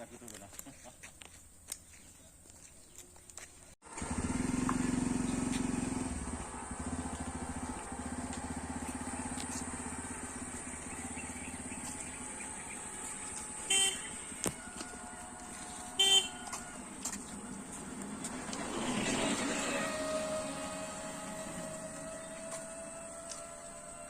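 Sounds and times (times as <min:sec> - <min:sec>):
vehicle engine running: 0:03.8 - 0:24.0.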